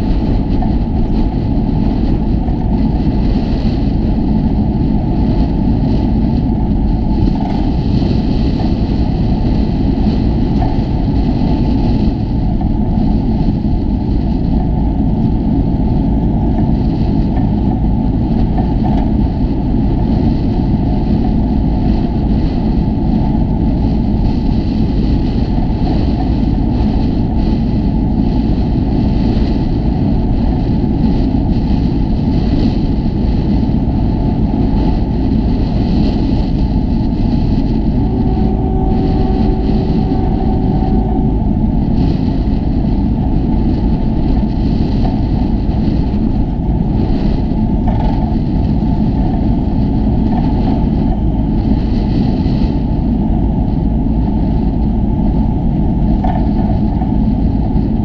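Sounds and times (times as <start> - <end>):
locomotive diesel engine drone: 0.0 - 58.0.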